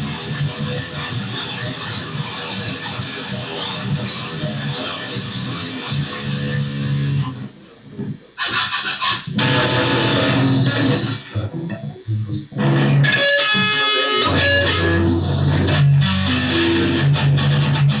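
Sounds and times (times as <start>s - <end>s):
guitar music with bass line: 0.0s - 18.0s.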